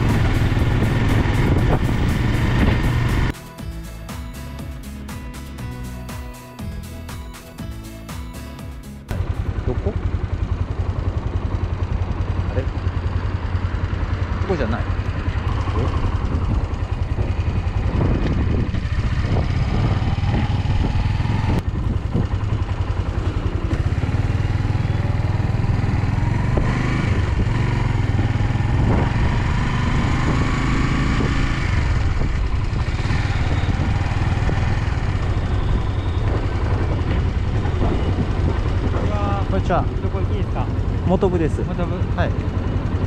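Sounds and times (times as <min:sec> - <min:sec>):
motorcycle engine running steadily: 0:00.0 - 0:43.0.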